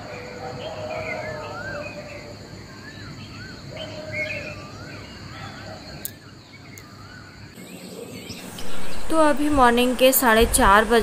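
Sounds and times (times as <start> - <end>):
birds singing: 0.0 - 11.0
outdoor background hum: 0.0 - 11.0.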